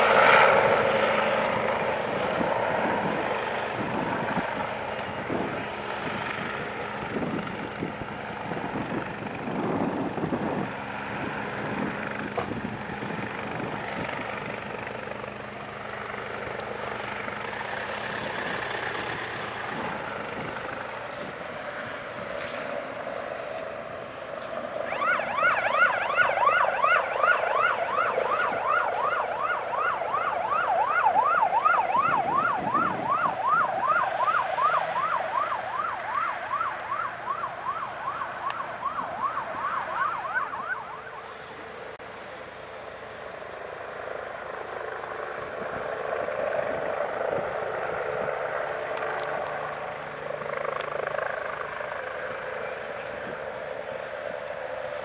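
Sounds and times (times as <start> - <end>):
siren in yelp mode: 0.0 - 55.0
vehicle engines running: 0.0 - 55.0.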